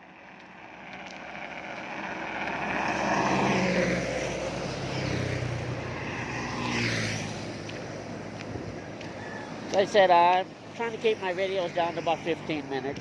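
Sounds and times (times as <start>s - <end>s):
vehicle passing by: 0.6s - 13.0s.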